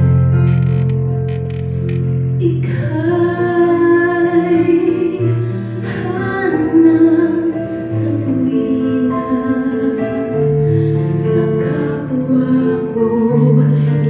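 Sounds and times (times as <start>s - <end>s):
low instrumental backing: 0.0s - 14.0s
woman singing into a microphone: 2.4s - 14.0s.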